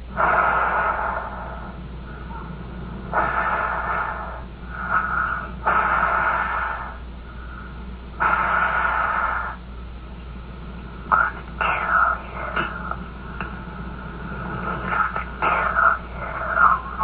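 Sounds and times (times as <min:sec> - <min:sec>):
person breathing: 0:00.0 - 0:09.7, 0:11.0 - 0:17.0
steady low hum: 0:00.0 - 0:17.0.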